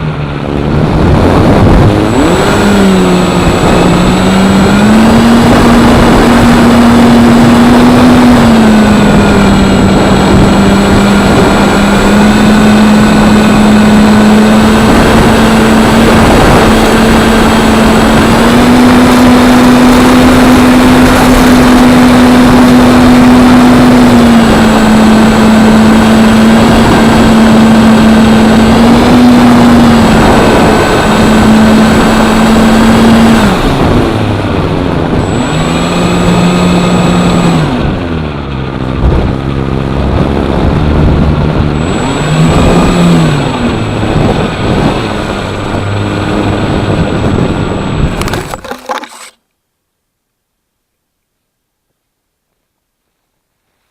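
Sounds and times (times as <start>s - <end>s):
wind rushing over microphone: 0.0s - 49.3s
model plane motor whine: 0.0s - 49.4s.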